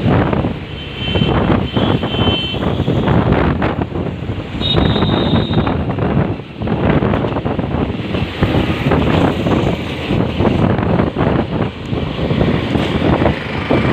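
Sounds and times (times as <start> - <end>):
road traffic rumble: 0.0 - 13.9
wind buffeting microphone: 0.0 - 13.9.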